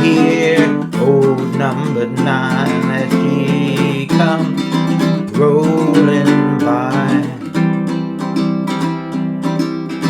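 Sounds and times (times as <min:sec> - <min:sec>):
acoustic guitar fingerpicked: 0:00.0 - 0:10.0.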